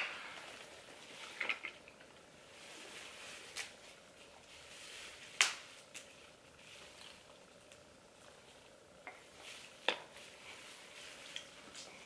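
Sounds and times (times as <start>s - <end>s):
plastic gloves and bag rustling: 0.0s - 12.0s.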